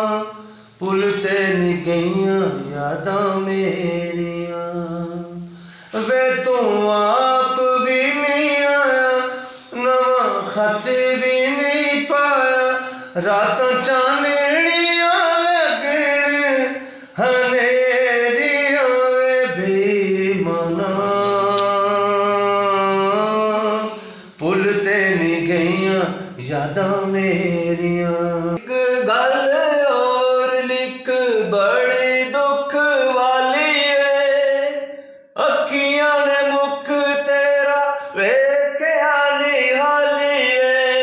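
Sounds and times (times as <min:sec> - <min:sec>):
man singing: 0:00.0 - 0:41.0
man's voice: 0:00.0 - 0:41.0.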